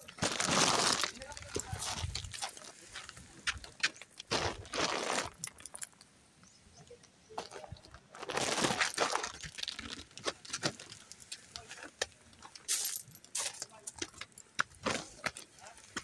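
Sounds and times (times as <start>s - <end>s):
footsteps on gravel: 0.0s - 5.9s, 7.4s - 16.0s.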